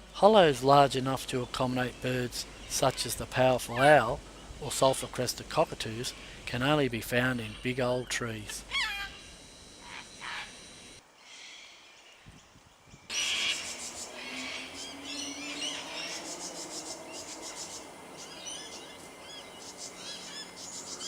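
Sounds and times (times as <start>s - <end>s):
wild birds calling: 0.7s - 4.6s, 5.9s - 12.2s, 13.1s - 21.0s.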